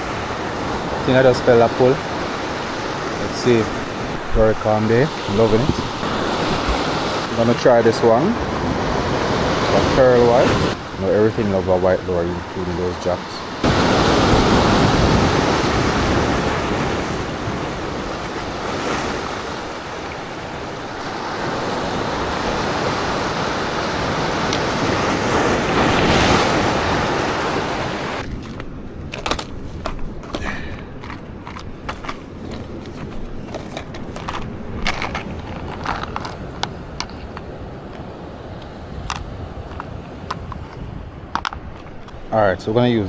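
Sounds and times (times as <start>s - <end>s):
sea waves washing on shore: 0.0s - 43.0s
wind: 0.0s - 43.0s.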